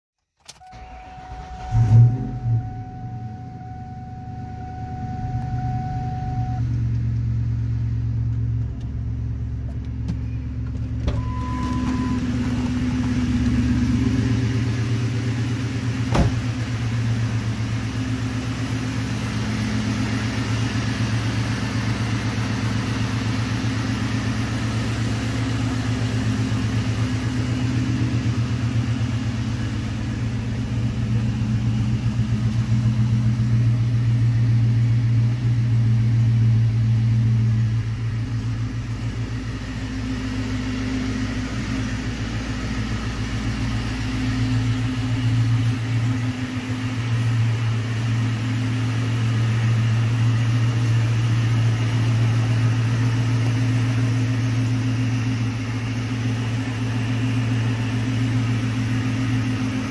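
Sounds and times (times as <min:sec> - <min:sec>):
car engine starting and idling: 0:00.3 - 0:59.9.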